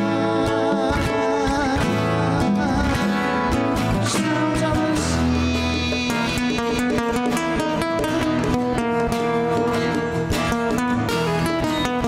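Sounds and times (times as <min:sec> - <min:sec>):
congas: 0:00.0 - 0:12.0
nylon-string guitar: 0:00.0 - 0:12.0
steel-string acoustic guitar: 0:00.0 - 0:12.0.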